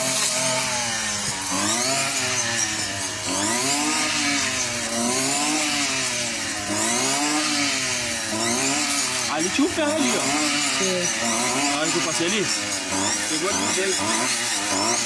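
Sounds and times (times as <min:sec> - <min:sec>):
brush cutter engine revving: 0:00.0 - 0:15.0.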